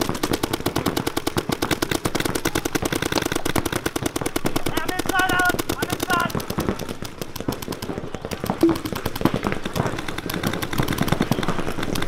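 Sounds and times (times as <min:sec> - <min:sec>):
paintball guns firing rapidly: 0:00.0 - 0:12.0.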